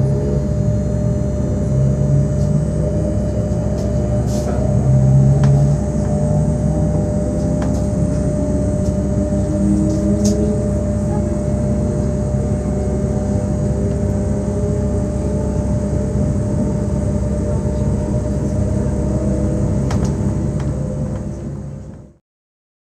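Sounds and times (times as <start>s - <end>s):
electric train rumble: 0.0s - 22.2s
motor whine: 0.0s - 22.2s.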